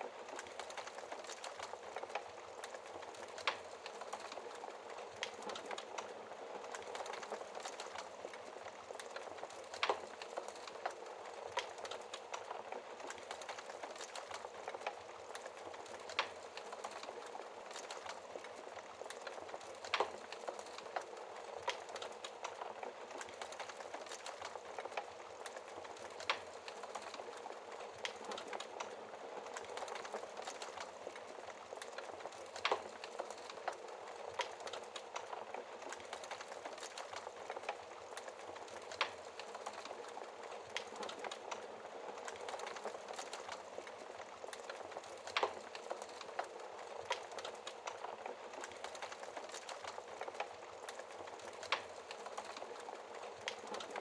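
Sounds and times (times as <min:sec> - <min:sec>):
wood fire crackling: 0:00.0 - 0:54.0
fire popping: 0:00.1 - 0:54.0.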